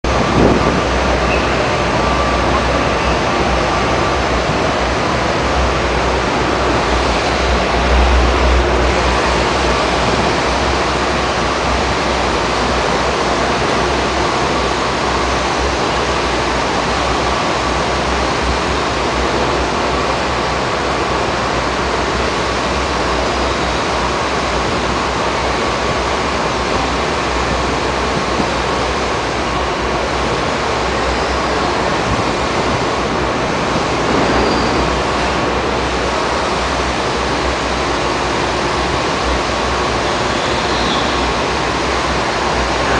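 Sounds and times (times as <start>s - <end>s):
train rushing noise: 0.0s - 42.9s.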